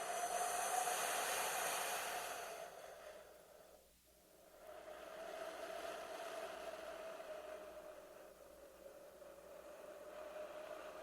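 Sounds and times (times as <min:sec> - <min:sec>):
ghostly airy breath: 0:00.0 - 0:11.0.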